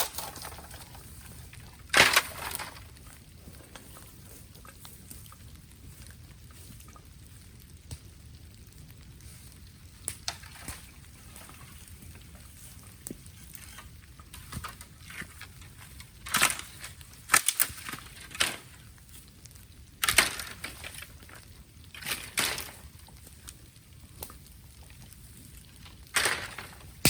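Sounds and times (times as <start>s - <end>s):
bamboo fire crackling and popping: 0.0s - 27.0s
crackling-hissing bursts: 0.0s - 27.0s.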